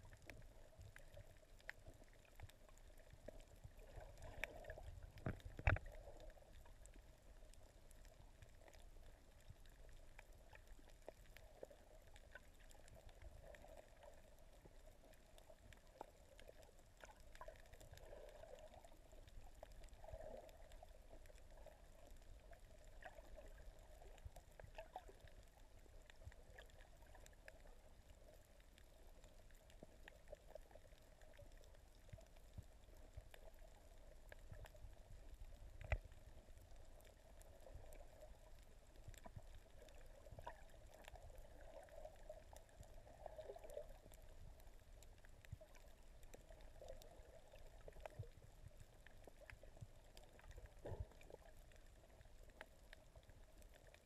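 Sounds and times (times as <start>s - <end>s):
muffled water noise: 0.0s - 54.0s
small clicks and crackles: 0.0s - 54.0s.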